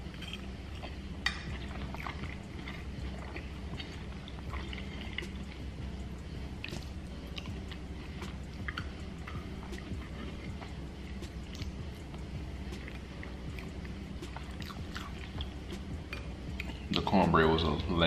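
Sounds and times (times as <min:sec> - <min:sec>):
man chewing food: 0:00.0 - 0:17.0
steady low hum: 0:00.0 - 0:18.0.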